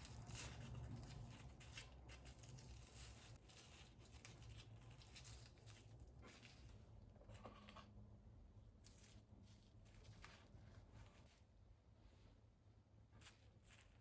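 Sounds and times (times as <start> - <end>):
rustling and crinkling: 0.0 - 8.0, 8.7 - 14.0.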